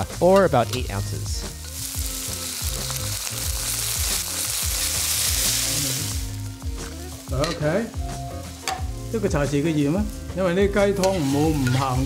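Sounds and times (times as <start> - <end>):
broth sizzling in hot wok: 0.0 - 12.0.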